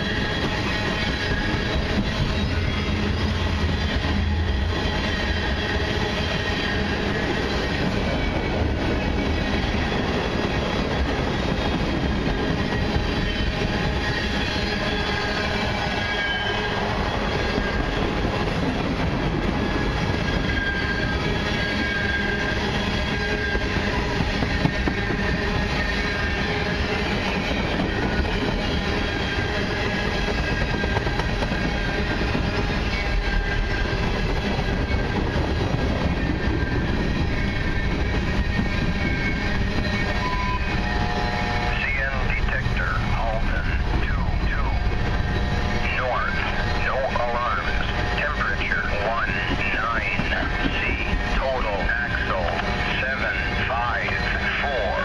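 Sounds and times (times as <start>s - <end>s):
high wheel squeal: 0.0s - 10.5s, 11.3s - 55.0s
freight train wheels on rail: 0.0s - 55.0s.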